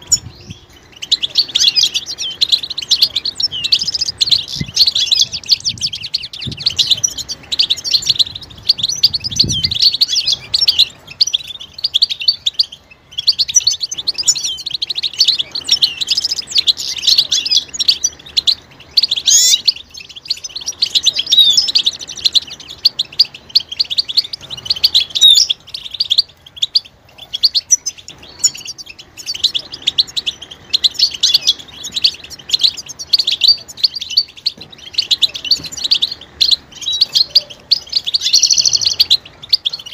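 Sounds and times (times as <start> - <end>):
goldfinches twittering: 0.0 - 39.9.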